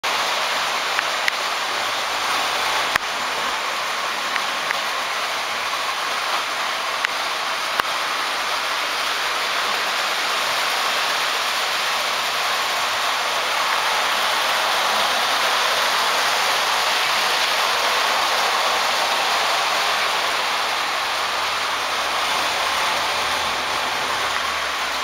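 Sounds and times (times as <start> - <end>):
model trains running: 0.0 - 25.0.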